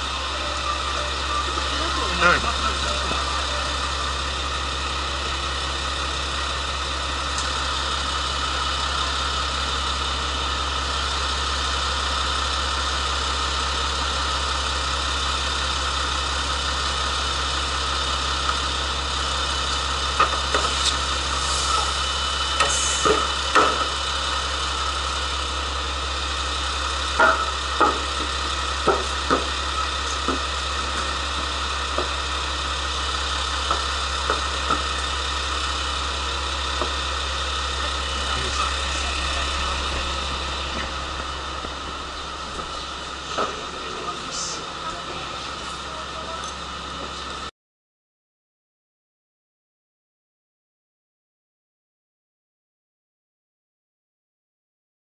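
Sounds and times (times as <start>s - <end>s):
diesel railcar idling hum: 0.0s - 47.5s.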